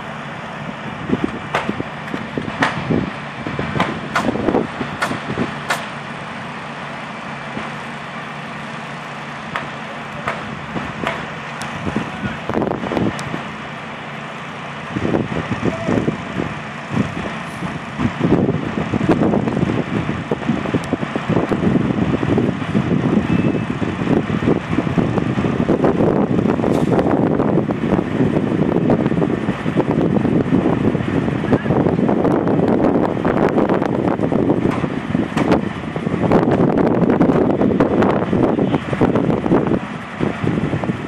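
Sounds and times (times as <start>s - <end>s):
crane engine running: 0.0s - 41.0s
loud rough noise: 0.0s - 41.0s.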